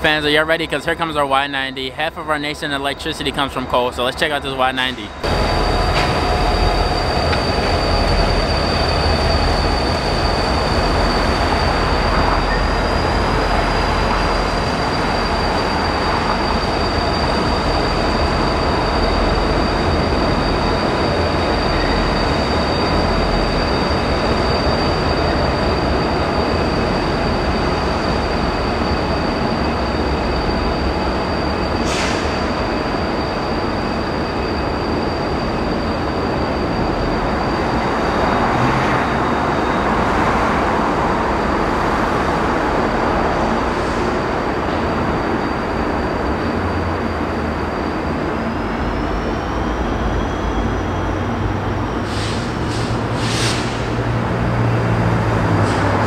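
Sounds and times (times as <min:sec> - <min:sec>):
freight train rumbling past: 0:00.0 - 0:56.0
high wheel squeal: 0:00.1 - 0:56.0.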